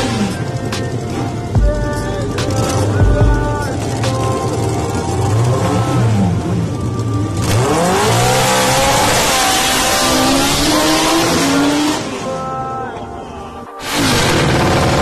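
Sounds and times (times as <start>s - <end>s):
lawn tractor engines at full throttle: 0.0s - 12.4s, 13.8s - 15.0s.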